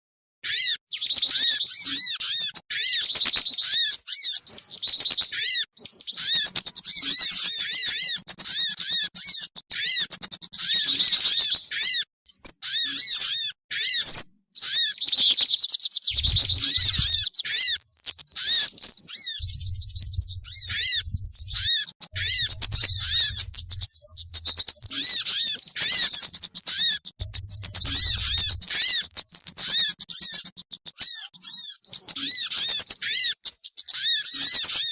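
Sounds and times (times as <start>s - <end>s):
songbirds chirping and trilling: 0.4s - 34.9s.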